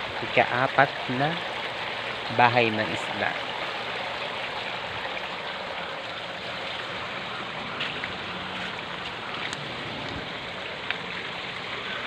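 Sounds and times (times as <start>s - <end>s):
water pouring from a pipe: 0.0s - 12.0s.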